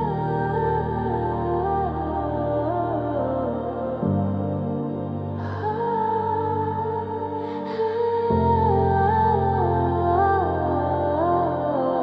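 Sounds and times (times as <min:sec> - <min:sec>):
soft electronic worship music: 0:00.0 - 0:12.0.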